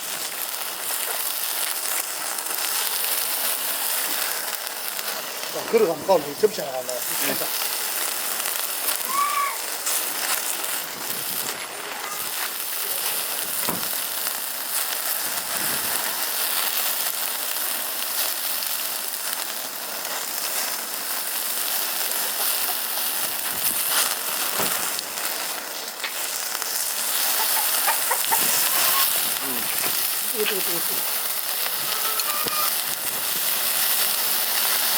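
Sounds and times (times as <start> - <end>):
fire pops and crackles: 0.0 - 34.9
meat sizzling on a grill: 0.0 - 34.9.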